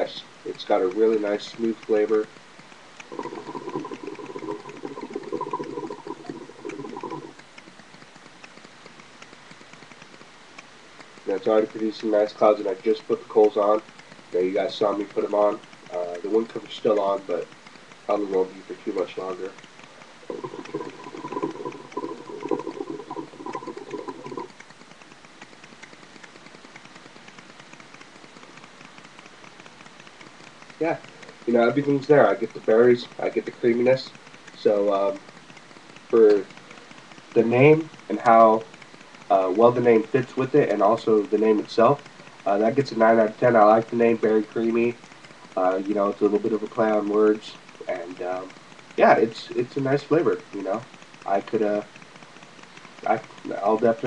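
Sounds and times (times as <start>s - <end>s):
faint ticks: 0.0s - 54.0s
hookah water bubbling: 0.0s - 54.0s.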